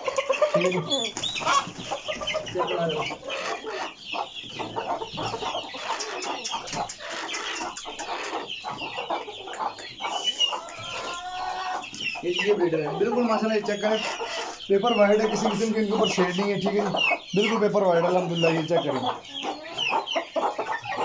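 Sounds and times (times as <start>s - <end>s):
chickens clucking and squawking: 0.0s - 21.0s.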